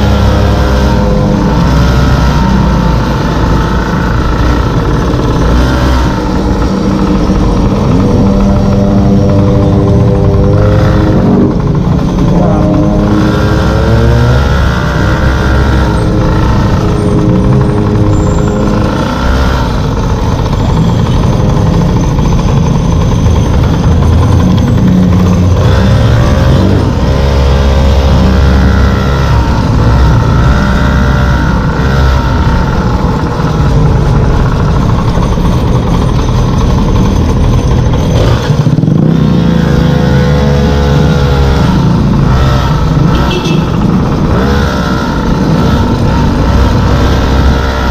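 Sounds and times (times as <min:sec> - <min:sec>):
small two-stroke engine running: 0:00.0 - 0:47.9.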